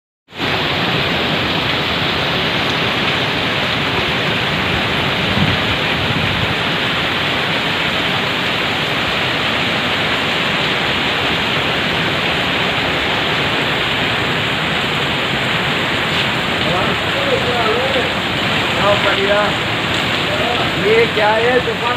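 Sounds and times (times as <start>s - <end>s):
heavy rain pouring: 0.3s - 21.9s.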